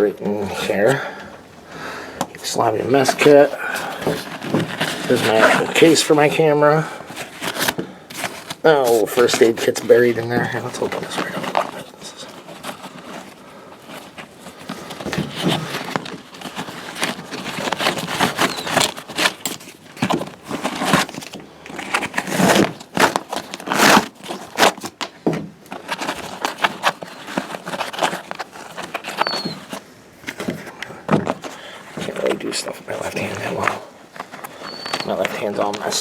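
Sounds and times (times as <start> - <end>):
plastic crinkling and rustling: 2.2 - 36.0.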